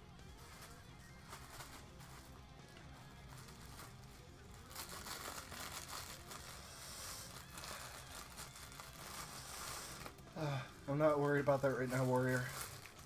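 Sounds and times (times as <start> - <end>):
rustling handling noise: 0.2 - 13.0.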